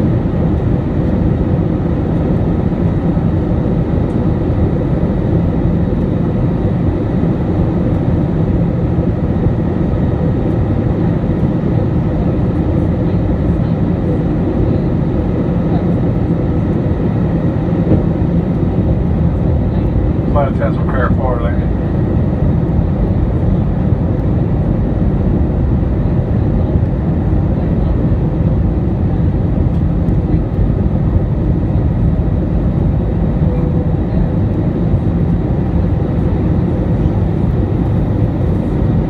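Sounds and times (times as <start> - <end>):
airplane cabin engine rumble: 0.0 - 39.0.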